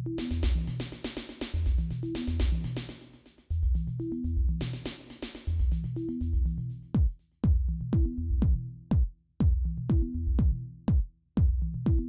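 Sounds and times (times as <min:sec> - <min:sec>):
looping bass line: 0:00.0 - 0:02.9, 0:03.5 - 0:10.8, 0:11.5 - 0:12.0
drum machine kick: 0:00.0 - 0:03.2, 0:04.6 - 0:05.9, 0:06.5 - 0:12.0.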